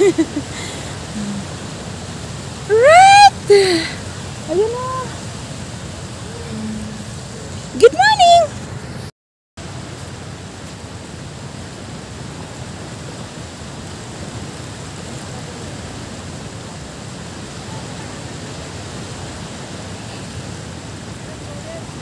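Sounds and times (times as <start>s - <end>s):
surf washing: 0.0s - 22.0s.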